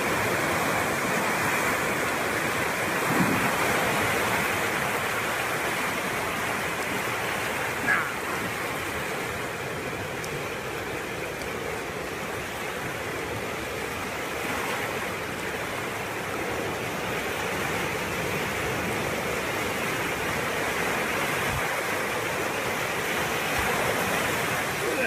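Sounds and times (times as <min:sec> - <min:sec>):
flood torrent rushing: 0:00.0 - 0:25.0.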